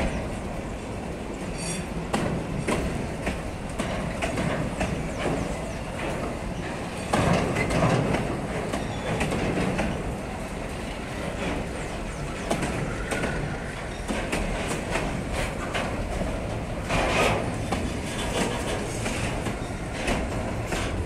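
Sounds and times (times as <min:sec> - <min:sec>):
train rumble: 0:00.0 - 0:21.0
train wheels clattering on rails: 0:00.0 - 0:21.0.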